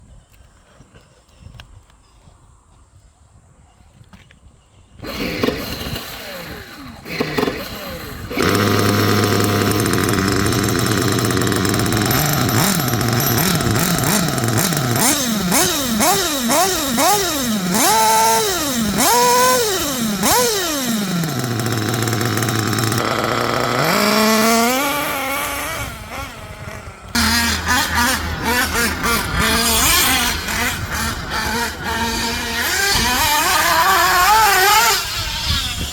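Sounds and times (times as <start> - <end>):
small nitro engine revving: 5.0 - 35.9.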